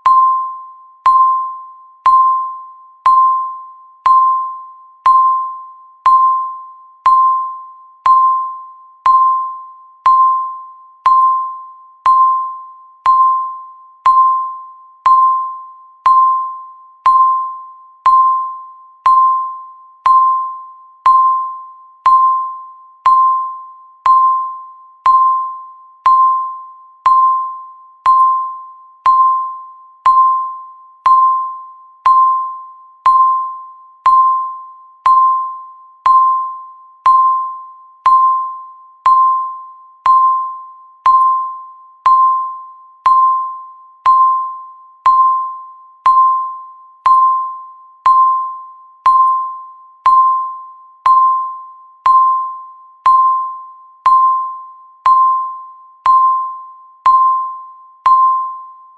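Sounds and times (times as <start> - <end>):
timer electronic ping: 0.0 - 58.9.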